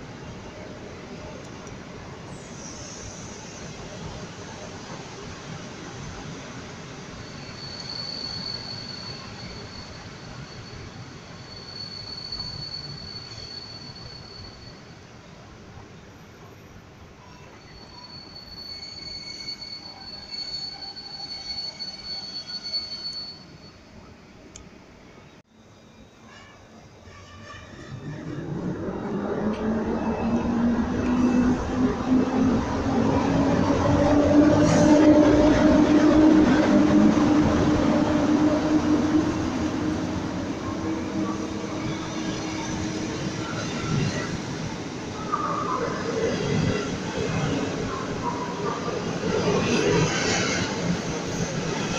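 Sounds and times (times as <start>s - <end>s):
train wheels squealing on rails: 2.2s - 24.4s, 25.1s - 51.9s.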